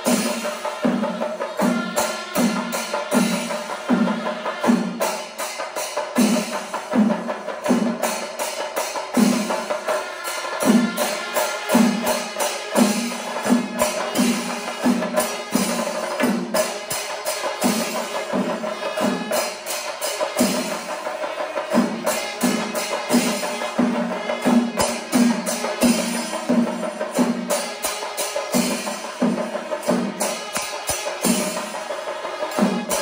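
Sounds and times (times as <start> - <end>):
cymbals clashing: 0.0 - 33.0
drums beaten with sticks: 0.0 - 33.0.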